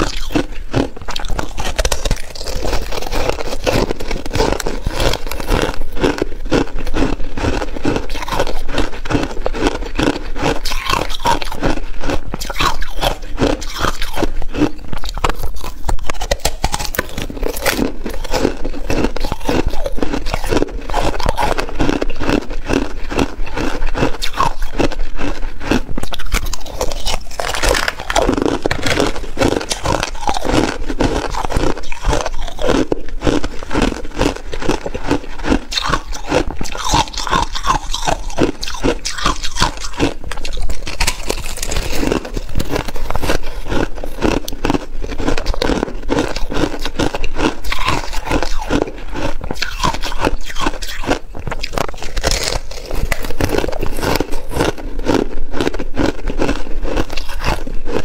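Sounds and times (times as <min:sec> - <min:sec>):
chewing crushed ice: 0:00.0 - 0:58.0.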